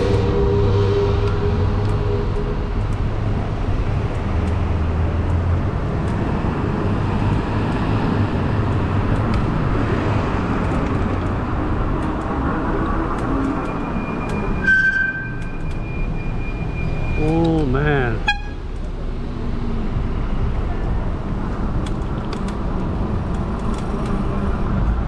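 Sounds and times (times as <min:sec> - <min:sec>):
rushing road noise: 0:00.0 - 0:25.0.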